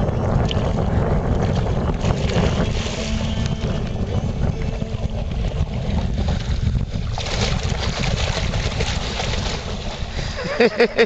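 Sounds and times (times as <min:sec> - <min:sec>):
wind buffeting microphone: 0:00.0 - 0:11.0
water splashing: 0:00.4 - 0:11.0.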